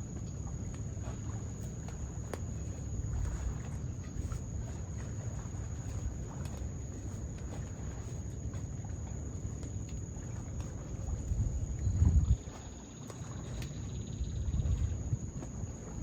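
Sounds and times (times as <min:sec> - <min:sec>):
insects trilling: 0:00.1 - 0:16.0.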